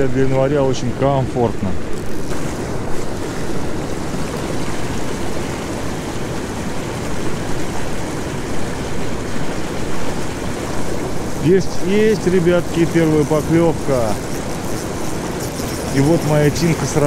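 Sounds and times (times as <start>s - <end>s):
turbulent water rushing: 0.0s - 17.0s.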